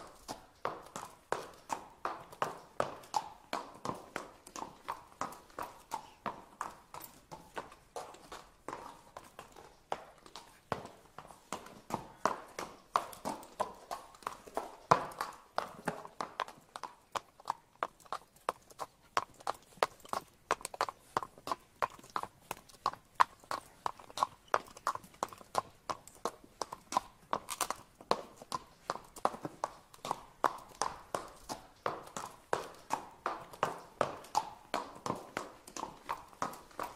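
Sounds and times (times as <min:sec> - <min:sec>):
horse hooves on pavement: 0:00.0 - 0:36.9.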